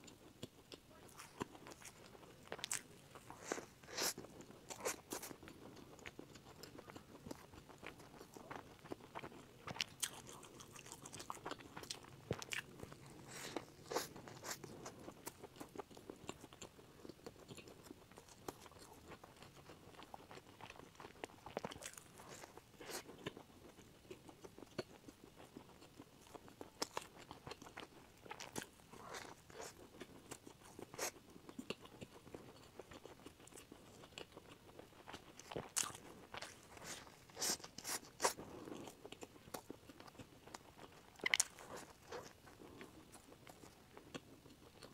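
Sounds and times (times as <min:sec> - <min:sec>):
soft chewing: 0:00.0 - 0:44.9.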